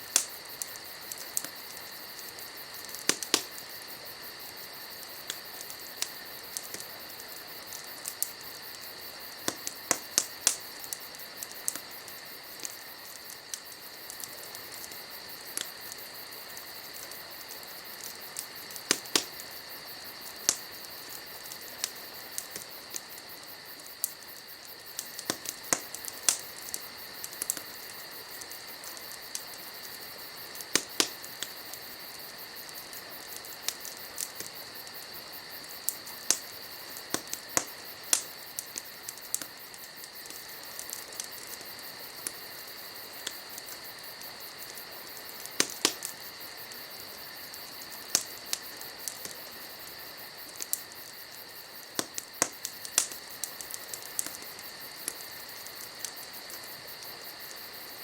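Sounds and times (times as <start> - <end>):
campfire crackling and popping: 0.0 - 58.0
insects chirring: 0.0 - 58.0.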